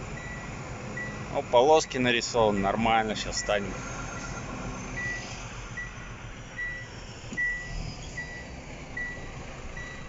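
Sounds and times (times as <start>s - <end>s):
truck engine idling: 0.0s - 10.0s
truck warning beeper beeping: 0.1s - 1.3s, 2.5s - 6.0s, 6.6s - 10.0s.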